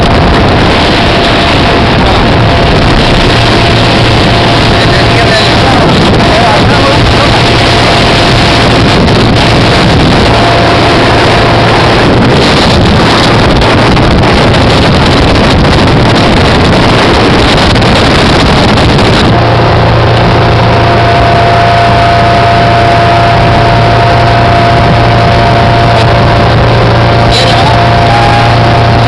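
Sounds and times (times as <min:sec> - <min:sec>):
speedboat engine hum: 0:00.0 - 0:29.0
wind and water rushing: 0:00.0 - 0:29.0.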